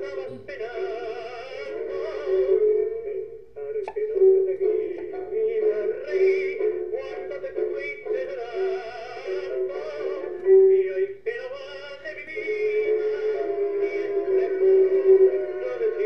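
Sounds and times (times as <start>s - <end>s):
tango music: 0.0s - 16.0s.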